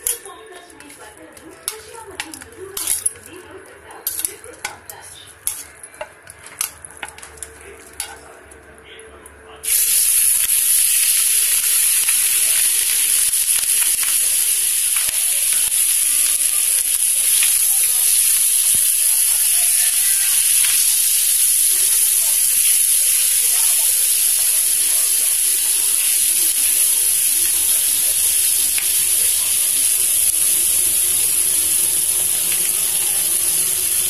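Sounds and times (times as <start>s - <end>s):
chicken sizzling in hot oil: 0.0s - 4.8s, 9.6s - 34.0s.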